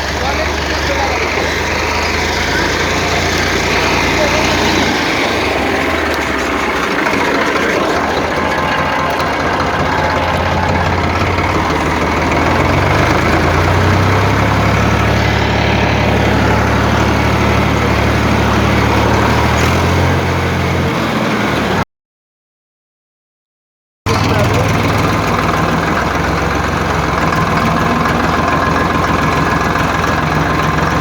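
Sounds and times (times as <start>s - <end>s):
engine idling: 0.0s - 21.8s, 24.1s - 31.0s.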